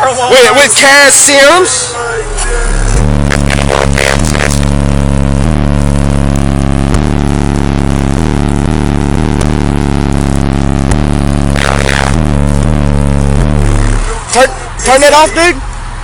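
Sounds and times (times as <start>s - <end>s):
deep bass notes from car audio: 0.8s - 16.0s.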